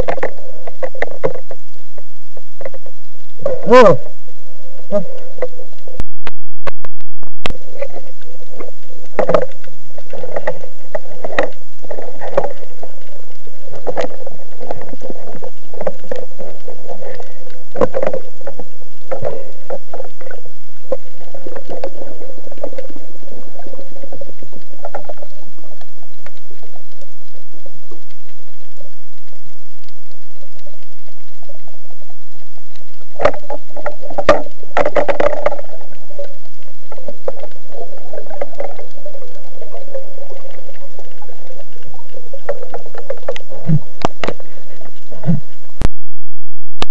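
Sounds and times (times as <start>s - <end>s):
muffled underwater water rushing: 0.0s - 46.9s
steady hum: 0.0s - 46.9s.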